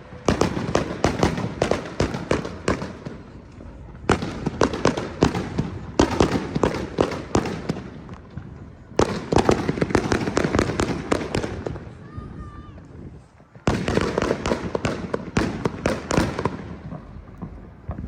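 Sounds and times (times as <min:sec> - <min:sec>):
firecrackers banging: 0:00.0 - 0:18.0.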